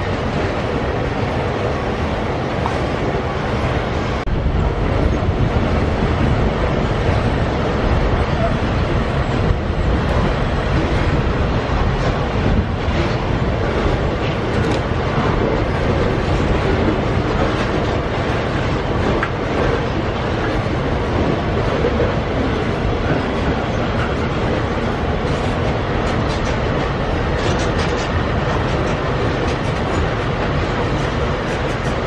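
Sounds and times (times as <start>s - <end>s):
freight wagons rolling on rails: 0.0s - 32.0s.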